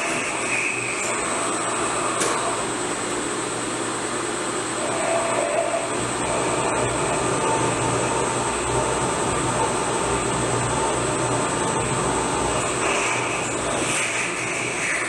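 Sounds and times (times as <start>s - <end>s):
milling machine whine and hiss: 0.0s - 15.0s.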